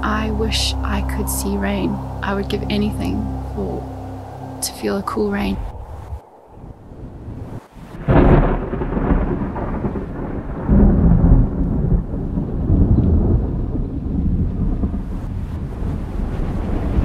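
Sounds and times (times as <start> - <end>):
thunder rumbling: 0.0 - 17.0.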